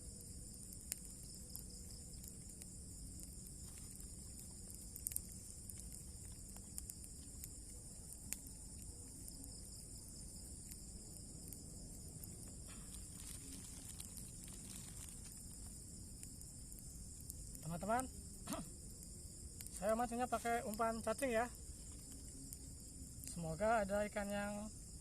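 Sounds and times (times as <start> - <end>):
crickets and insects chirping: 0.0 - 25.0.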